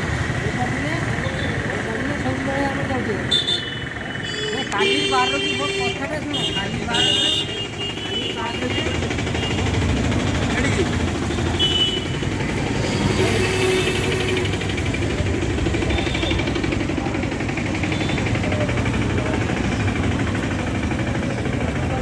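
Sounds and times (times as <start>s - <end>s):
engine running with rapid knocking: 0.0s - 22.0s.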